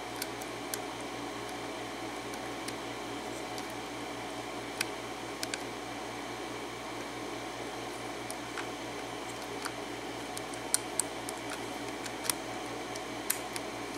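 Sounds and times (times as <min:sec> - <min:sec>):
low background hum: 0:00.0 - 0:13.9.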